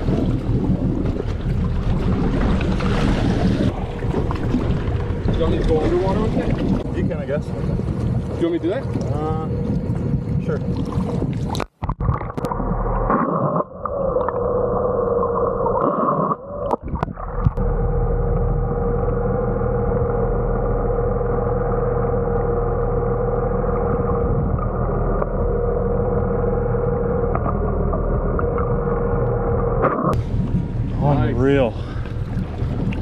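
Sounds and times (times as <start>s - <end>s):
boat motor heard underwater: 0.0s - 33.0s.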